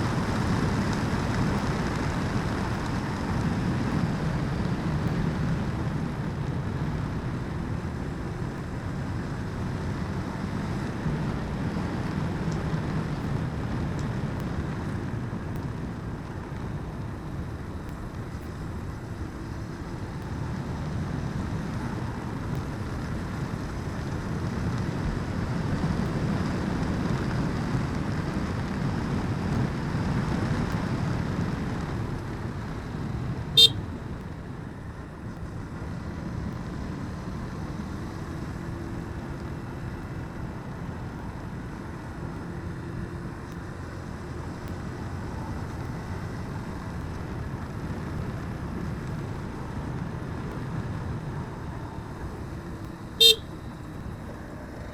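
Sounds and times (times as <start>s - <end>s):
motorbike engine and road rumble: 0.0s - 54.9s.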